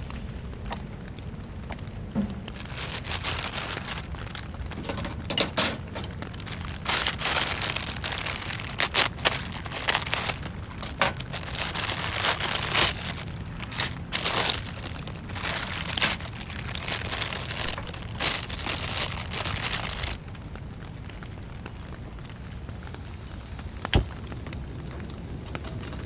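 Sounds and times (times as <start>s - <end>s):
crinkling and crackling: 0.0s - 26.0s.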